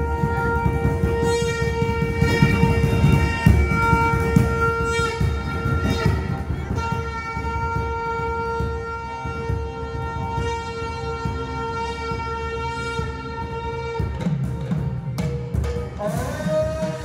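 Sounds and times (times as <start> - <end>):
hand-played barrel drums: 0.0 - 17.0
wind instrument holding a note: 0.0 - 17.0.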